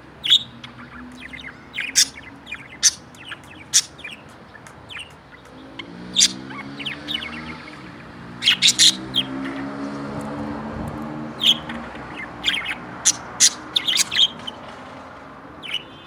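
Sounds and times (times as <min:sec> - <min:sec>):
budgerigar chirping: 0:00.2 - 0:09.7, 0:11.4 - 0:14.6, 0:15.6 - 0:16.0.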